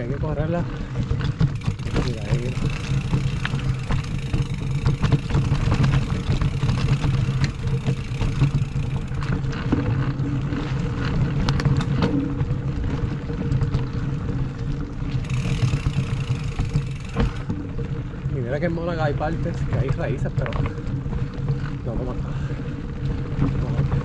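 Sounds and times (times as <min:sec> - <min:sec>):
bike chain and frame rattling: 0:00.0 - 0:24.0
bike tyre ride noise: 0:00.0 - 0:24.0.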